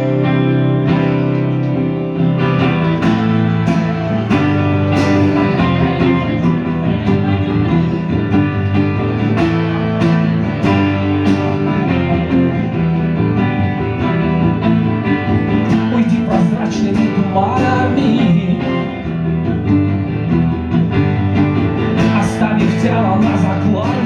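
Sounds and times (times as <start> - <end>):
instrumental rock music: 0.0 - 24.0
strummed acoustic guitar: 0.0 - 24.0.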